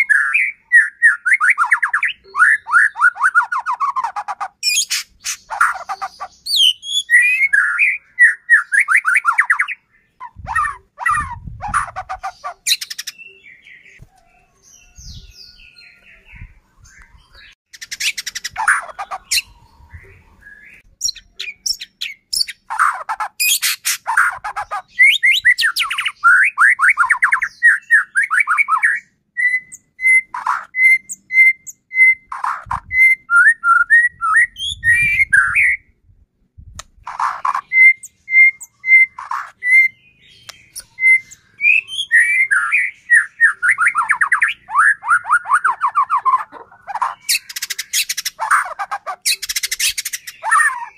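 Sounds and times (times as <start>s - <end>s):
songbird singing varied song: 0.0s - 36.0s, 36.6s - 50.9s.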